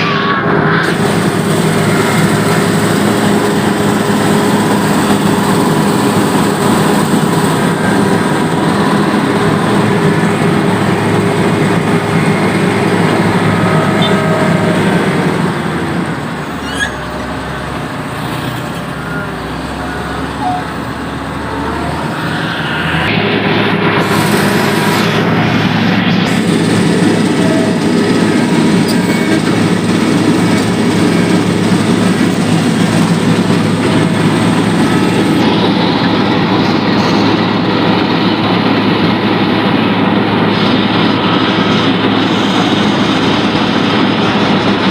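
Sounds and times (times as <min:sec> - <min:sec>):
road surface scraping: 0:00.0 - 0:44.6
heavy machinery engine running: 0:00.0 - 0:44.9.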